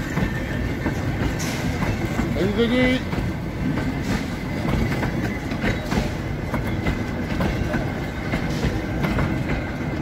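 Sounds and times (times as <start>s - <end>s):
train wheels rumbling: 0.0s - 10.0s
wheels clicking on rails: 0.0s - 10.0s.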